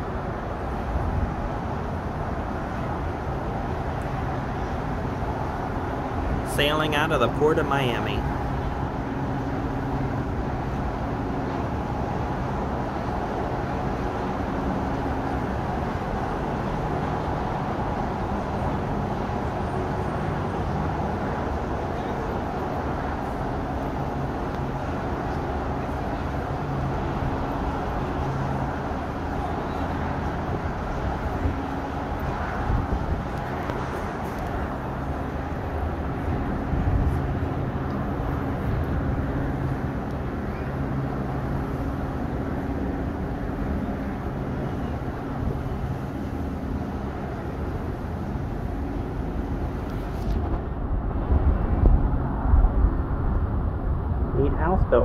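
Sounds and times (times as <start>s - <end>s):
road traffic: 0.0s - 55.0s
ship low hum and rushing: 0.0s - 55.0s.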